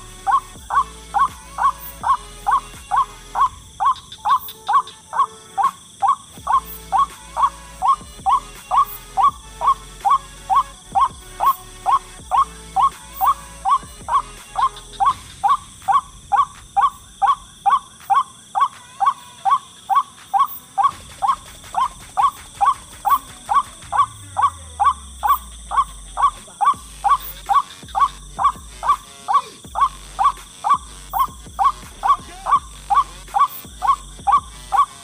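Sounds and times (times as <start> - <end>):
waterhen calling: 0.0 - 35.0.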